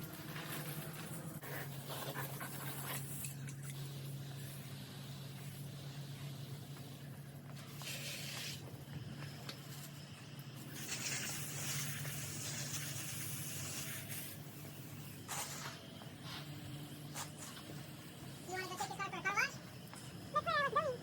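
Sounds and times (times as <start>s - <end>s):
hose water spray hissing: 1.6s - 8.9s, 9.5s - 21.0s.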